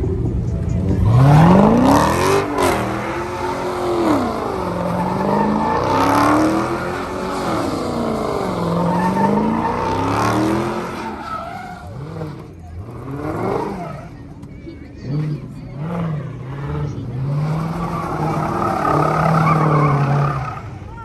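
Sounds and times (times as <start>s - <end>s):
car engine revving: 0.0s - 21.0s
tires squealing: 0.0s - 21.0s.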